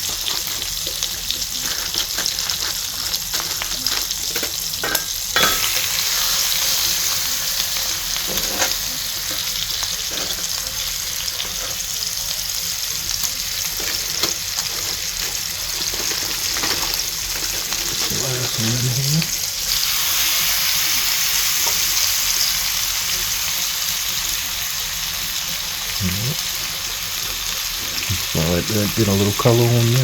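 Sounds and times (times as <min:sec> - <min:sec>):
meat sizzling in grease: 0:00.0 - 0:30.0.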